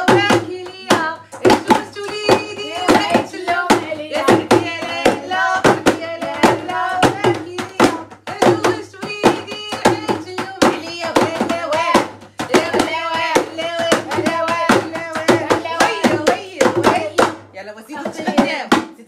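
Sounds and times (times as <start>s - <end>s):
festive singing: 0.0s - 19.0s.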